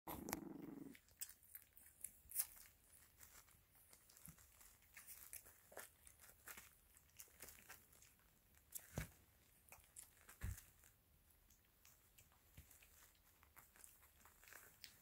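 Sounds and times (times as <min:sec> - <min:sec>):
paws crinkling plastic pad: 0:00.1 - 0:15.0.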